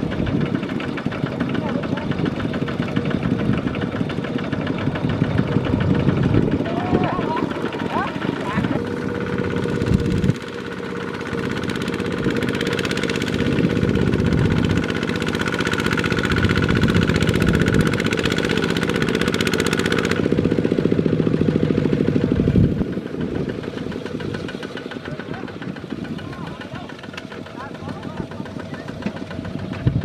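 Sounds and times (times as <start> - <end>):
diesel tractor engine chugging: 0.0 - 30.0.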